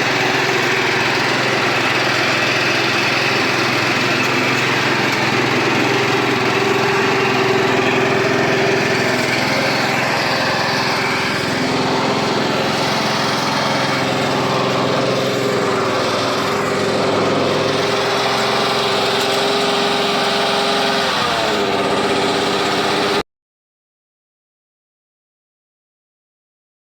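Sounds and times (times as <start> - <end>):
small engine running: 0.0 - 23.2.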